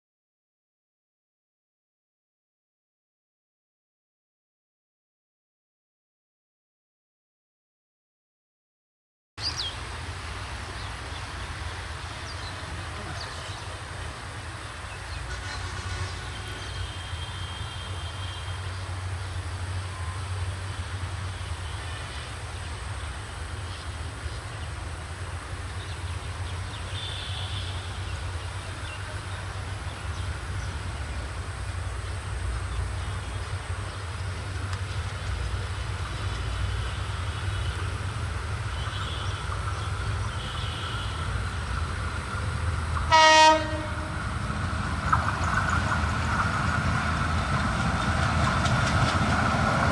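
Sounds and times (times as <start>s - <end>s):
diesel locomotive engine rumbling: 9.4s - 49.9s.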